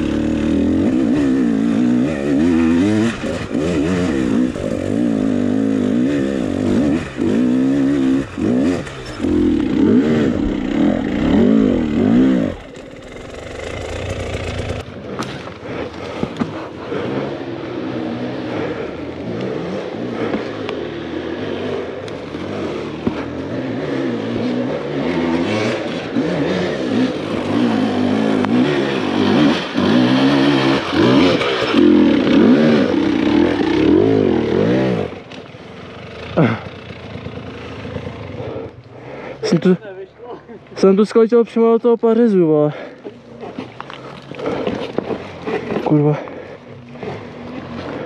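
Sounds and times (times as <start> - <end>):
dirt bike engine revving: 0.0 - 39.7.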